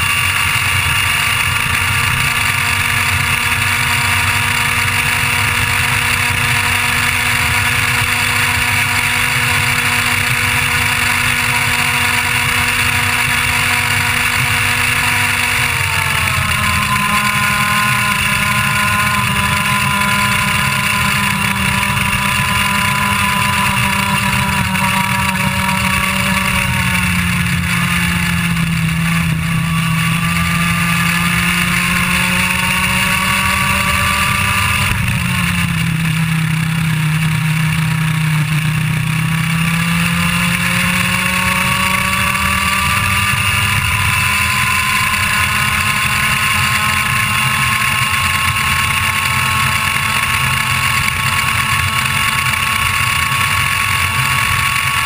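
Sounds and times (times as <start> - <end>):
kart engine at high revs: 0.0 - 55.0.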